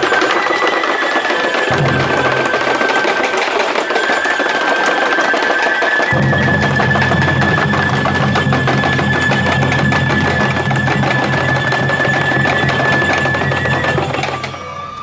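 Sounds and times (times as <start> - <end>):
fast clattering percussion: 0.0 - 15.0.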